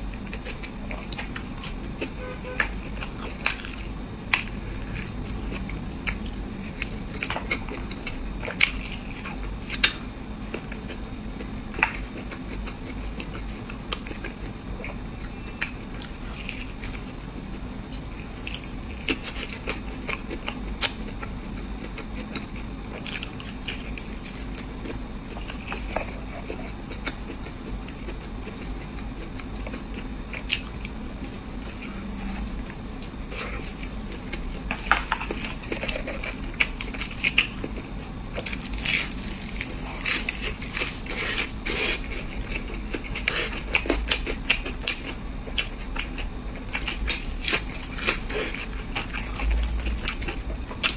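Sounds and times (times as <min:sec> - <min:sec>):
person chewing crisp food: 0:00.0 - 0:50.9
steady low hum: 0:00.0 - 0:50.9.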